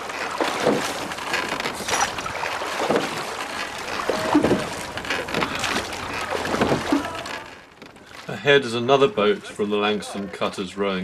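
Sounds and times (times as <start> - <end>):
oars knocking in rowlocks: 0.0 - 9.2
oars splashing water: 0.0 - 11.0.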